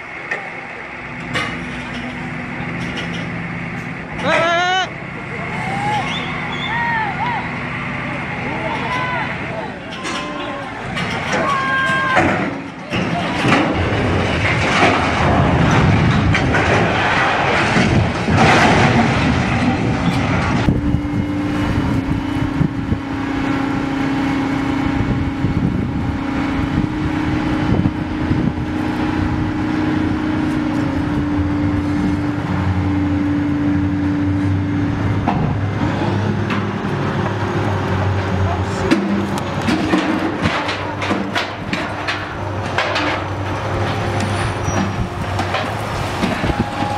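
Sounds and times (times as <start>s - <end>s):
crane engine humming: 0.0s - 46.9s
crane toppling over: 8.5s - 46.9s.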